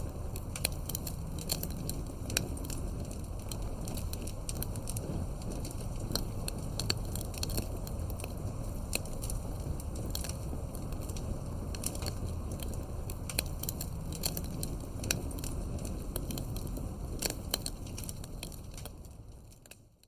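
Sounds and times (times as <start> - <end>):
burning wood crackling and popping: 0.0 - 20.0
wood fire burning: 0.0 - 20.0.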